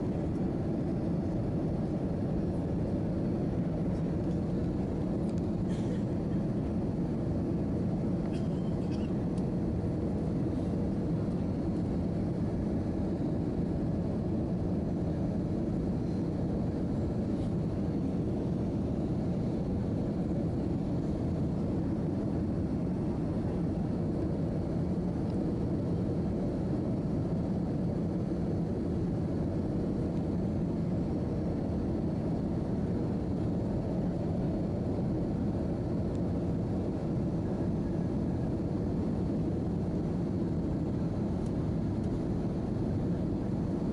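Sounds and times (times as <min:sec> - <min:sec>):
airliner cabin rumble: 0:00.0 - 0:43.9
faint steady hum: 0:00.0 - 0:43.9.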